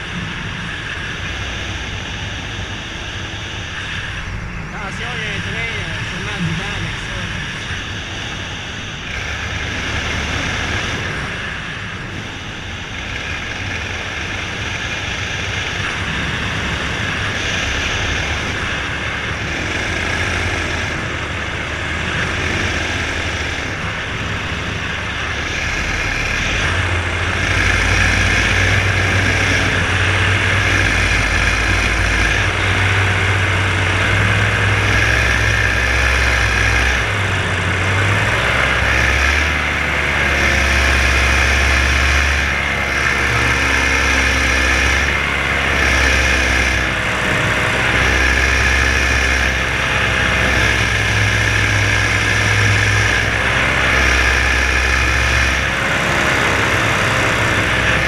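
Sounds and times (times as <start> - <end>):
paramotor engine running: 0.0 - 58.0.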